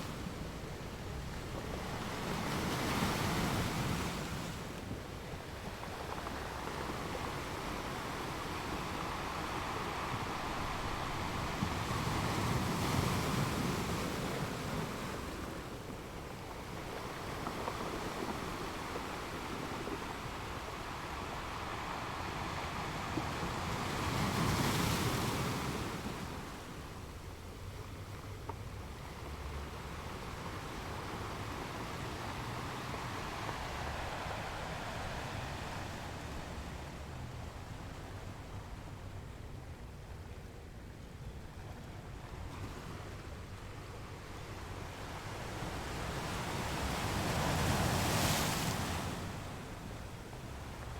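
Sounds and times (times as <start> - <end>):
ocean waves washing: 0.0 - 39.8, 42.4 - 50.9.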